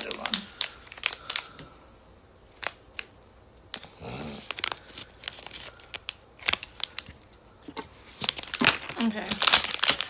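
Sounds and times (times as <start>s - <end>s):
package crinkling and tearing: 0.0s - 1.7s, 2.4s - 10.0s.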